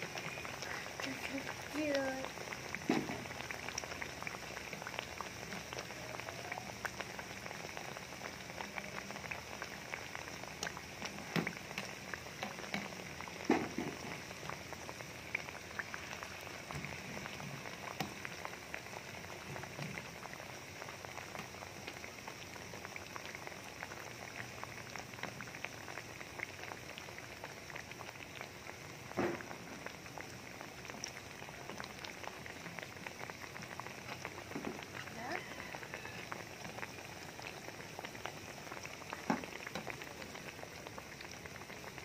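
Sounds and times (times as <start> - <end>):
deep-frying in hot oil: 0.0 - 42.0.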